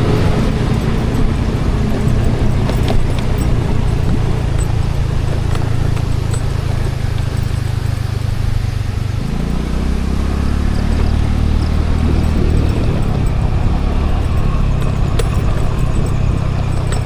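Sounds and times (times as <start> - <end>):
road and wind noise: 0.0 - 17.0
scooter engine running: 0.0 - 17.0.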